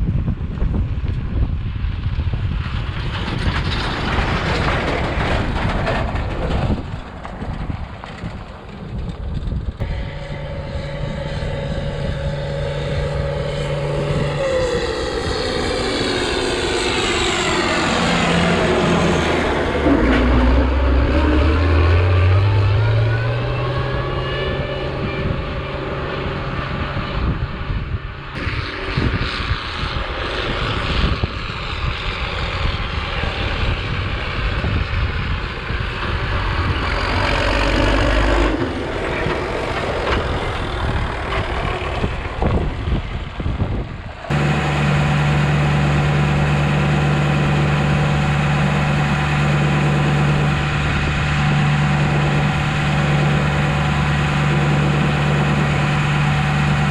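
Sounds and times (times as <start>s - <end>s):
heavy vehicle engine rumbling: 0.0s - 30.0s, 32.6s - 56.9s.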